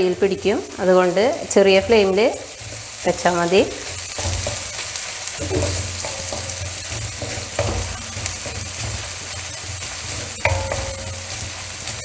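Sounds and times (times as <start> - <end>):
garlic sizzling in oil: 0.0 - 12.0
spoon scraping pan: 0.0 - 12.0.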